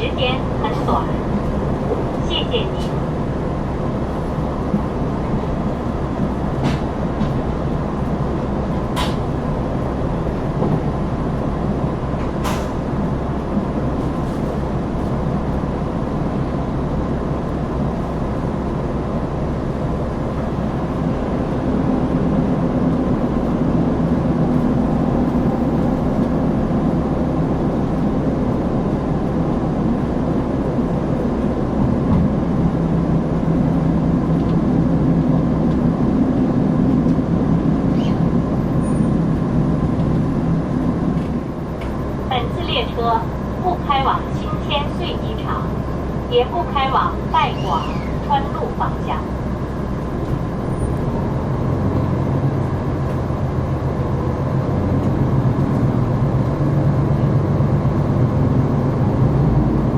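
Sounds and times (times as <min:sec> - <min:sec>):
train diesel engine running: 0:00.0 - 0:59.9
train running noise: 0:00.0 - 0:59.9.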